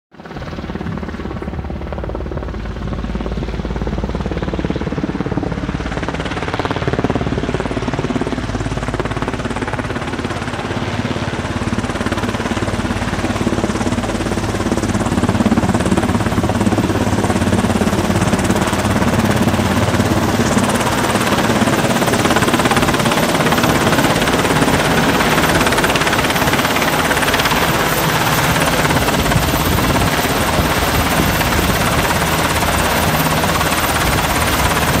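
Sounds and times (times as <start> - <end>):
helicopter rotor and turbine engines: 0.2 - 35.0.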